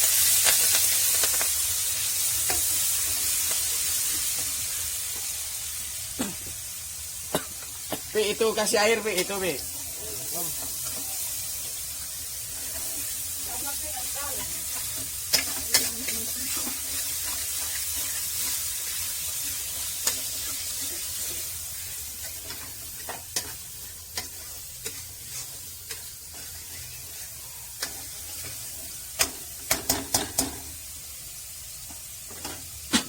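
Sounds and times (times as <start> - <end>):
meat sizzling in a pan: 0.0 - 33.0.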